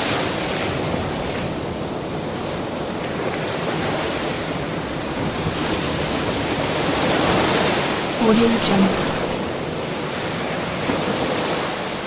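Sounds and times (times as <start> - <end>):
ocean waves washing ashore: 0.0 - 12.0.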